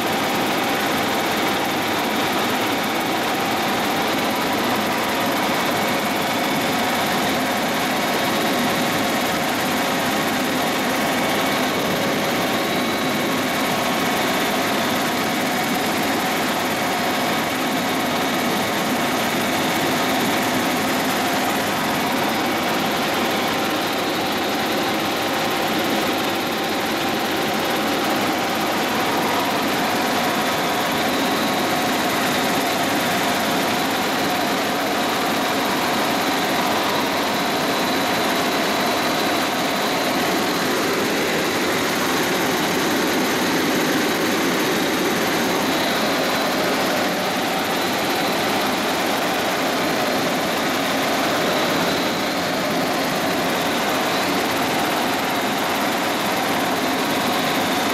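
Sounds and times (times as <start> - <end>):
helicopter engine and rotor noise: 0.0 - 57.9.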